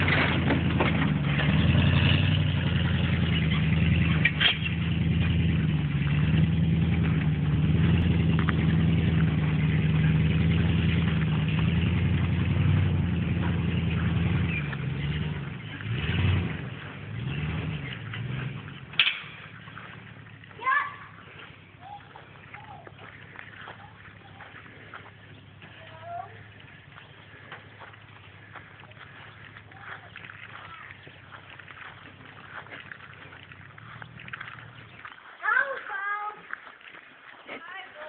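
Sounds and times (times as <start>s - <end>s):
truck engine running under load: 0.0s - 35.0s.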